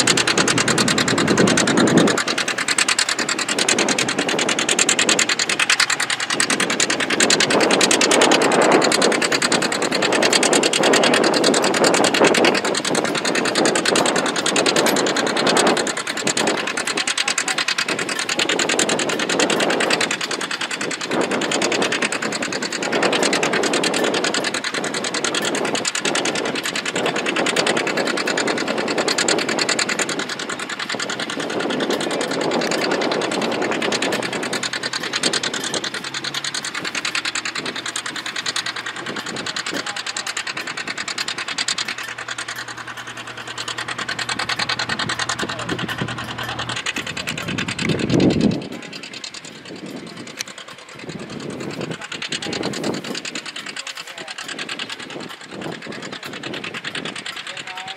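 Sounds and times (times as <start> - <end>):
diesel tractor engine under load: 0.0 - 57.9.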